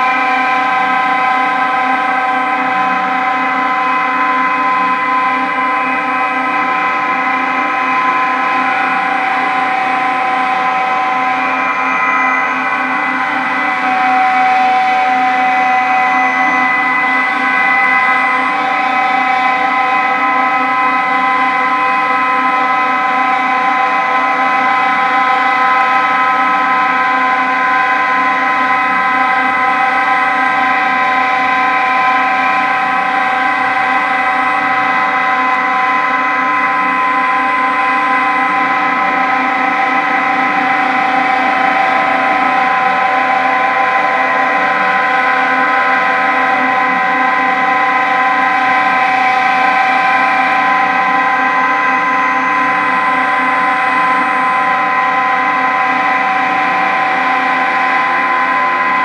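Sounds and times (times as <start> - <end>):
drone of held tones: 0.0 - 59.0.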